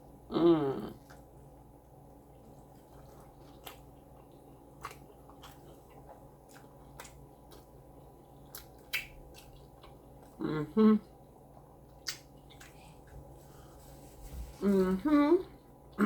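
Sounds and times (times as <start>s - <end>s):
eating sounds: 0.6s - 13.7s.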